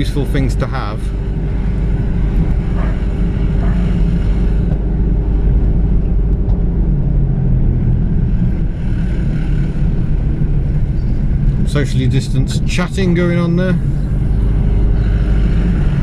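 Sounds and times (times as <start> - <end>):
minibus engine and road drone: 0.0 - 16.0.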